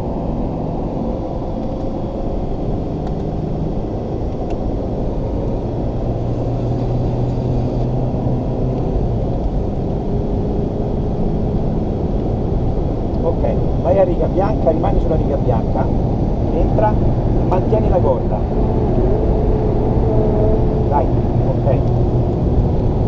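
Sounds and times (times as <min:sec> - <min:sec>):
car engine under full throttle: 0:00.0 - 0:23.0
road and wind noise: 0:00.0 - 0:23.0.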